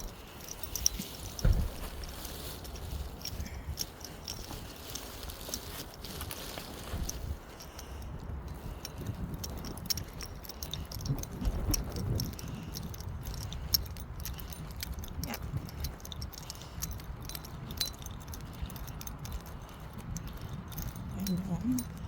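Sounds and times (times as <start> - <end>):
keys jangling: 0.0 - 22.0.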